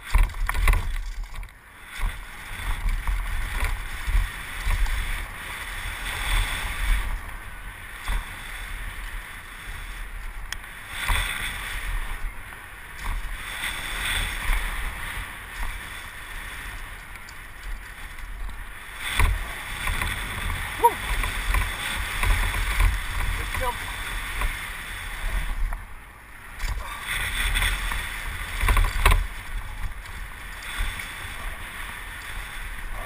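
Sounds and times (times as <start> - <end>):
bike tyre and rattle noise: 0.0 - 33.0.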